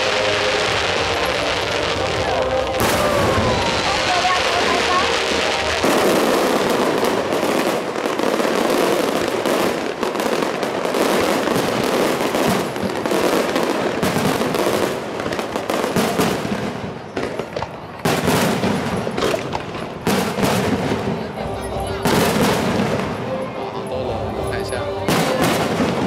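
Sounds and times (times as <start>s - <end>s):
fireworks bursting and crackling: 0.0s - 26.0s.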